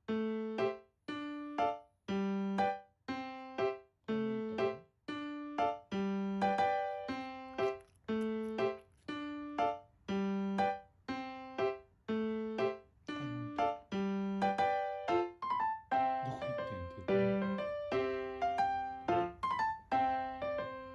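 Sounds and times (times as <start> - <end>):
piano-like keyboard tune: 0.0 - 20.9.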